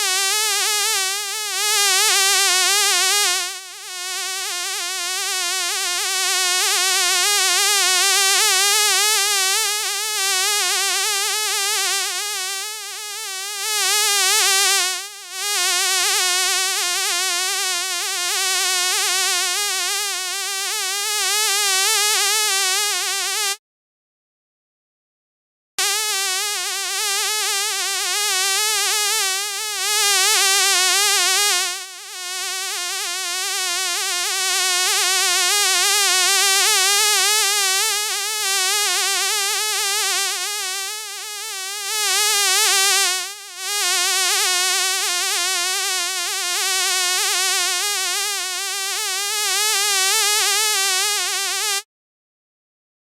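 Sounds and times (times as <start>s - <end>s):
fly buzzing in flight: 0.0s - 23.6s, 25.8s - 51.8s.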